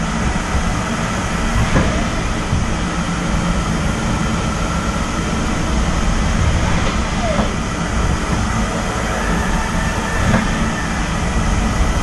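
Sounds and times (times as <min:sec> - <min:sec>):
lathe mechanical hum: 0:00.0 - 0:12.0
faint high whine: 0:00.6 - 0:12.0.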